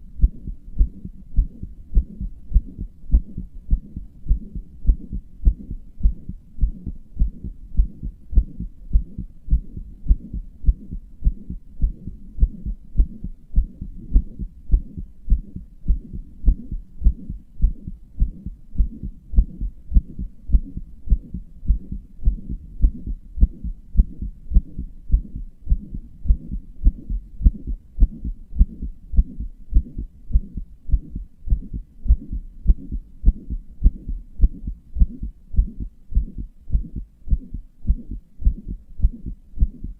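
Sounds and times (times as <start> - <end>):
heartbeat thuds: 0.0 - 39.9.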